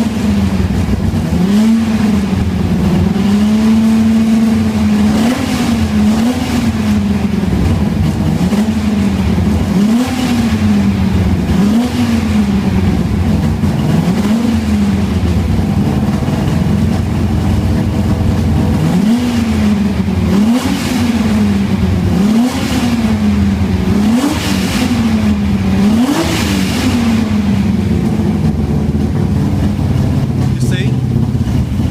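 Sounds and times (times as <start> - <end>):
engine revving: 0.0 - 31.9.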